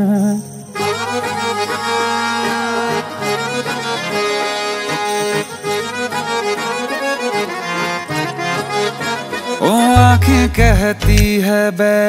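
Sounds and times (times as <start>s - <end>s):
instrumental melody over held chords: 0.7s - 11.3s.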